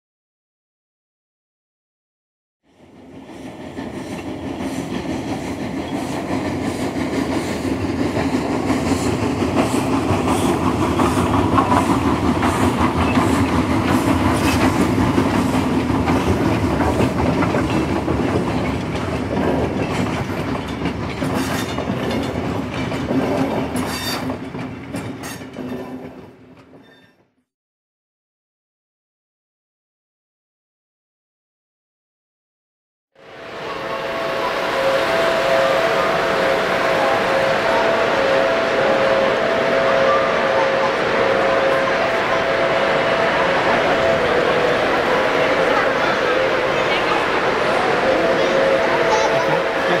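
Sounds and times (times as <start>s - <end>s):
train clickety-clack on rails: 2.7s - 27.4s, 33.5s - 50.0s.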